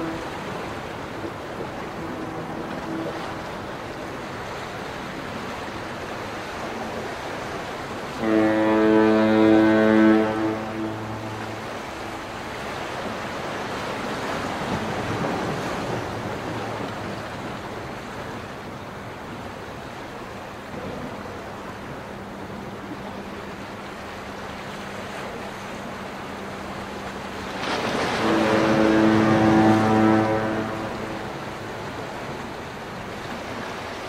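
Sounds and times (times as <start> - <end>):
ship's horn: 0.0 - 18.9, 20.3 - 34.0
waves washing: 0.0 - 34.0.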